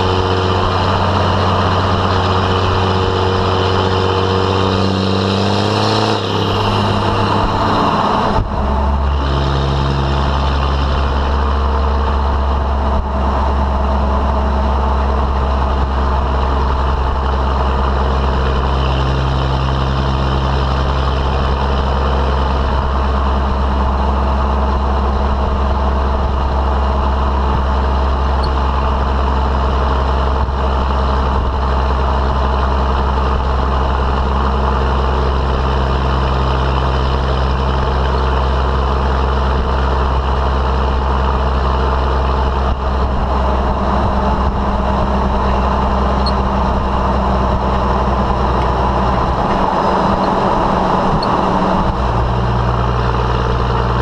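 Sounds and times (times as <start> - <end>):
diesel engine deep drone: 0.0 - 54.0
tyre and road noise: 0.0 - 54.0.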